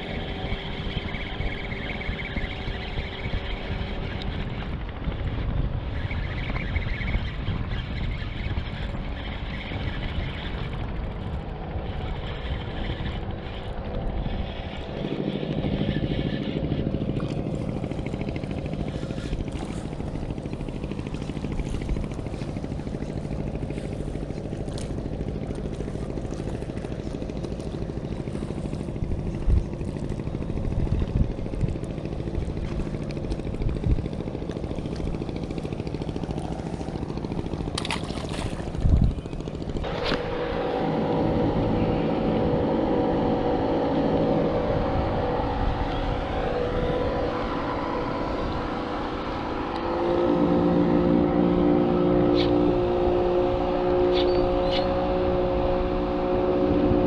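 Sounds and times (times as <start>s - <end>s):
motorboat engine humming: 0.0s - 57.0s.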